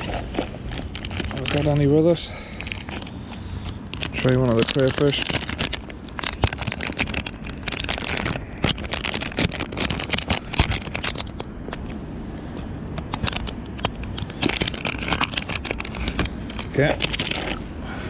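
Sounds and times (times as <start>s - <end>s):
fishing tackle clicking and rattling: 0.0s - 12.0s, 13.0s - 17.8s.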